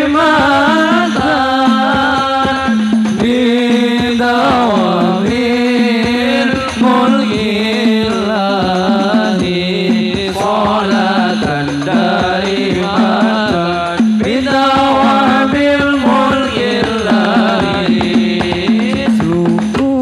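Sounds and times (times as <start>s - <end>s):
frame drums beating: 0.0s - 20.0s
men singing devotional melody: 0.0s - 20.0s.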